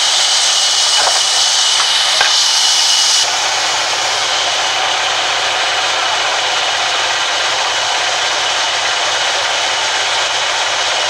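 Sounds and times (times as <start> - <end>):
band saw hissing: 0.0 - 11.0
dull machine noise: 0.0 - 11.0.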